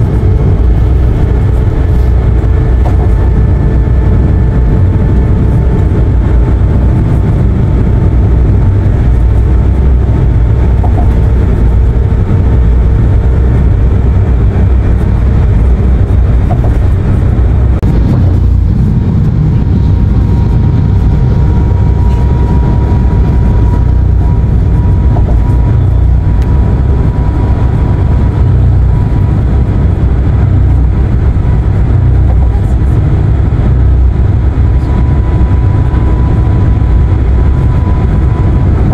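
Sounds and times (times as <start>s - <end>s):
van road and engine rumble: 0.0s - 38.9s.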